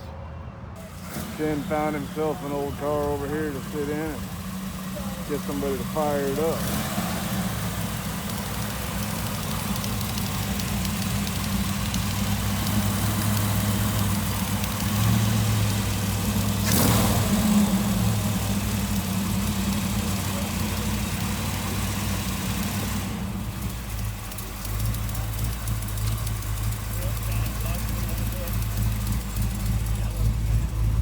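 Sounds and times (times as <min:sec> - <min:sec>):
car engine idling: 0:00.8 - 0:31.0.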